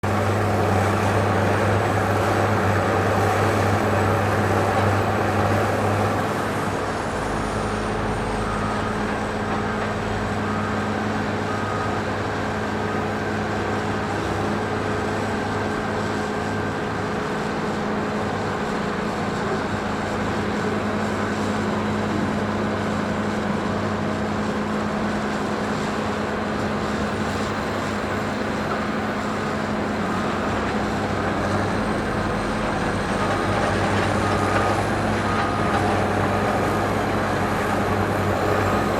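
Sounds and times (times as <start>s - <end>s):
clatter of construction noise: 0.0s - 38.9s
heavy engine running: 0.0s - 38.9s.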